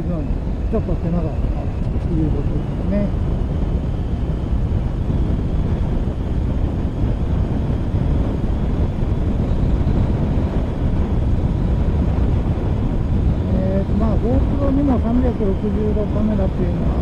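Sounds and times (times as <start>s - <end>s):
road noise: 0.0s - 17.0s
wind rush: 0.0s - 17.0s.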